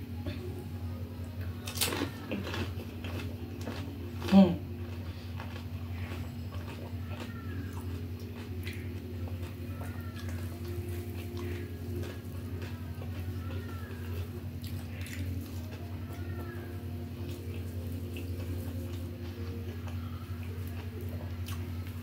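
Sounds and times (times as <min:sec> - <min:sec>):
steady low hum: 0:00.0 - 0:22.0
chewing: 0:01.4 - 0:22.0.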